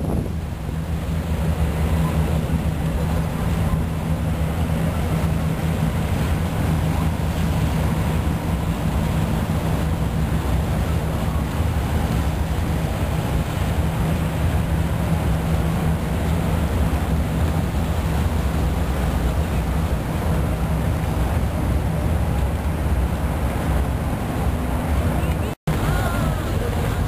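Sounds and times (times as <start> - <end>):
boat engine running: 0.0 - 27.0
water wash: 0.0 - 27.0
wind noise: 0.0 - 27.0.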